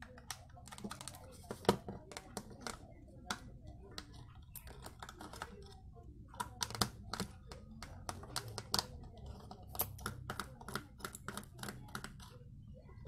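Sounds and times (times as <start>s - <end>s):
plastic clicks and taps: 0.0s - 12.3s.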